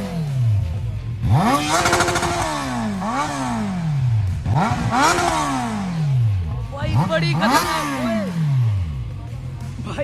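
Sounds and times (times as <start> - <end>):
unmuffled motorcycle engine revving: 0.0 - 10.0.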